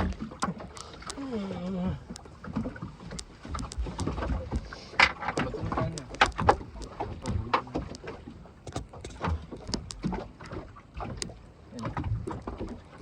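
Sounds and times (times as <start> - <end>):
knocks and clatter on boat: 0.0 - 13.0
water rumble: 0.0 - 13.0
wind: 0.0 - 13.0.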